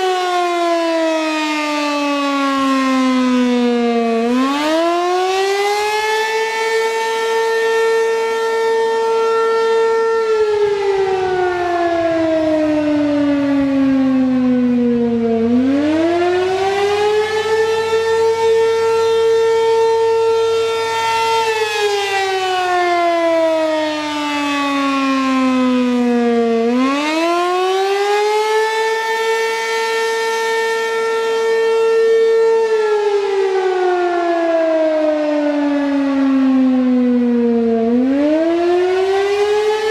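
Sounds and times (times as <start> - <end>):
warning siren slow wail: 0.0 - 39.9.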